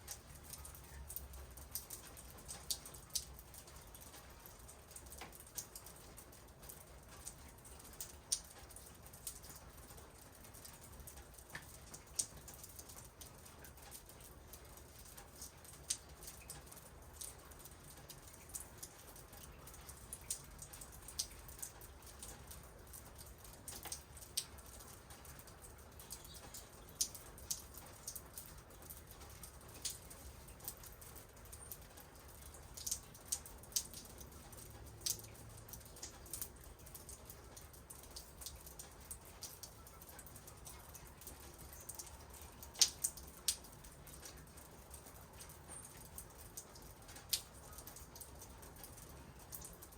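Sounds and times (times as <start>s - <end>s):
raindrops ticking: 0.0s - 49.9s.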